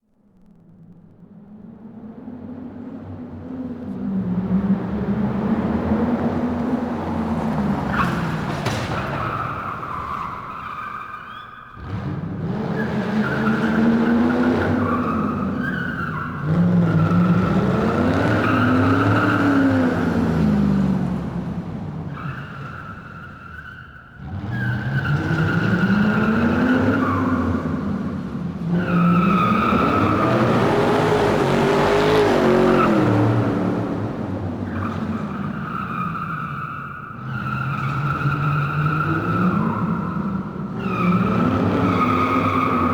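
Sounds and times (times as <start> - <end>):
car engine revving: 2.2 - 10.6, 11.8 - 23.4, 24.0 - 42.9
car tyres squealing: 3.0 - 42.9.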